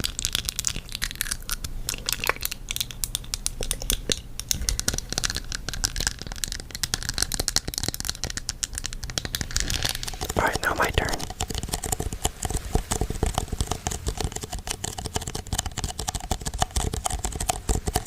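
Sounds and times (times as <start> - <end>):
crinkling and crackling: 0.0 - 18.0
low steady hum: 0.0 - 18.0.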